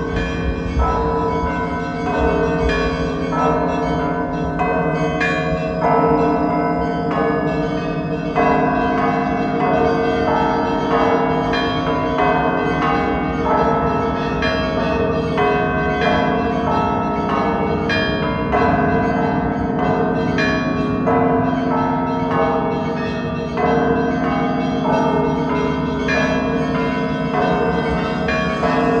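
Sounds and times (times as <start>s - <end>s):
bells ringing in a peal: 0.0s - 29.0s
large bell hum: 0.0s - 29.0s.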